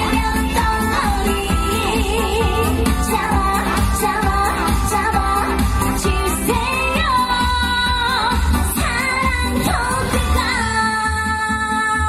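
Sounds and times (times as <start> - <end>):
music with steady bass beat: 0.0 - 12.0
woman singing into a microphone: 0.0 - 12.0.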